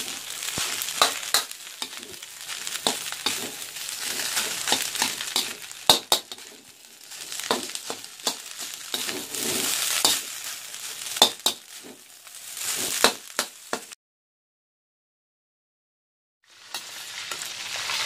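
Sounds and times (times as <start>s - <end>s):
rice sizzling in a pan: 0.0s - 14.0s, 16.4s - 18.0s.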